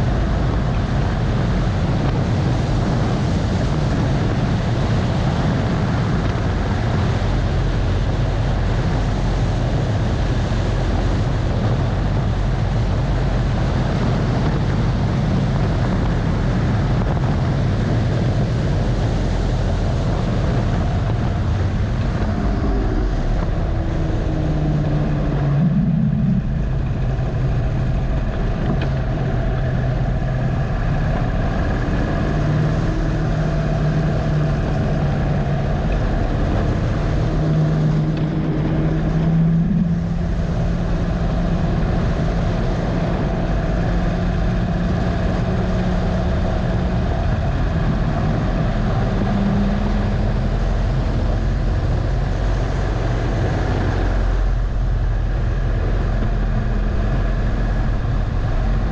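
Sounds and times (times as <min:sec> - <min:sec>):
wind rush: 0:00.0 - 0:58.9.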